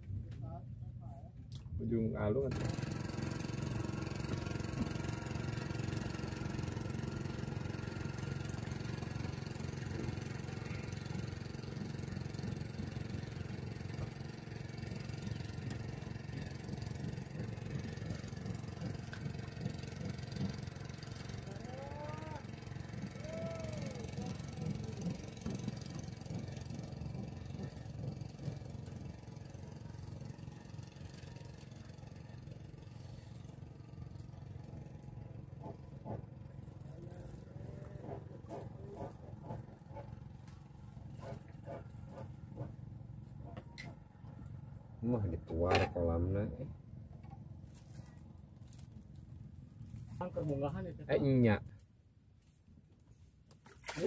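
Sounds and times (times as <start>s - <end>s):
faint low background hum: 0.0s - 2.5s, 8.1s - 54.0s
low engine drone: 0.0s - 54.0s.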